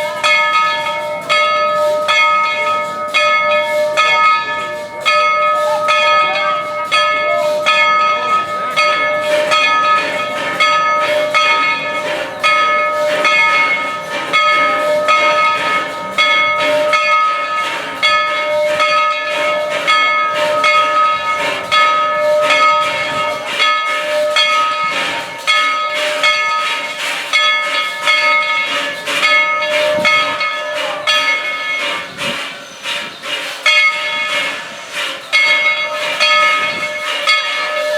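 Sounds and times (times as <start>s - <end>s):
steam locomotive bell ringing: 0.0s - 37.9s
hiss of steam: 4.6s - 37.9s.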